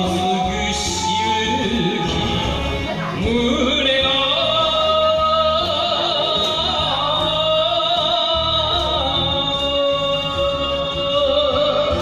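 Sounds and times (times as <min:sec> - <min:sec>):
karaoke backing track: 0:00.0 - 0:12.0
man singing with vibrato: 0:00.0 - 0:12.0.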